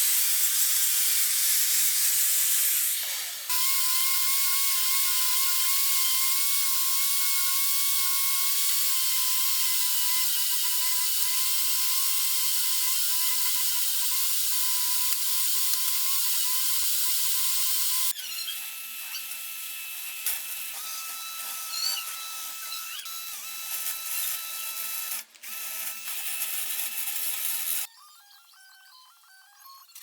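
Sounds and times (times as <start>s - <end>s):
electric power tool whining: 0.0s - 27.9s.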